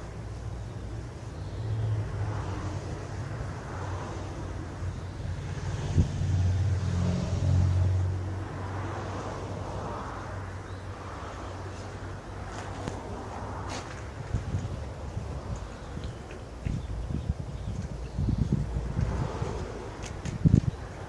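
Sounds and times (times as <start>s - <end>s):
low vehicle engine rumble: 0.0s - 21.0s.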